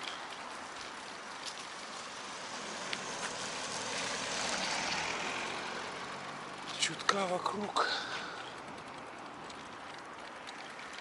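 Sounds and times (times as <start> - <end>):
road and traffic hiss: 0.0 - 11.0.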